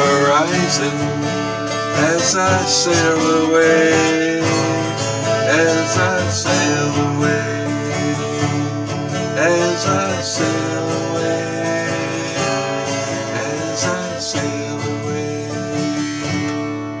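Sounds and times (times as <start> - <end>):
person singing: 0.0 - 16.3
acoustic guitar strummed: 0.0 - 17.0.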